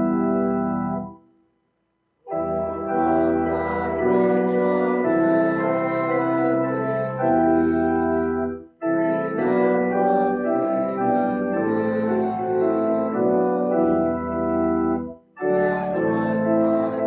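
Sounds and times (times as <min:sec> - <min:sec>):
church organ chords: 0:00.0 - 0:01.3, 0:02.3 - 0:17.0.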